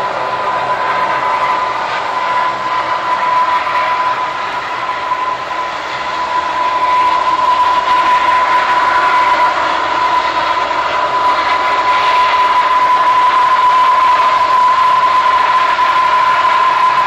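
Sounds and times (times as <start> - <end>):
rushing propeller noise: 0.0 - 17.0
turboprop engine whine: 0.0 - 17.0.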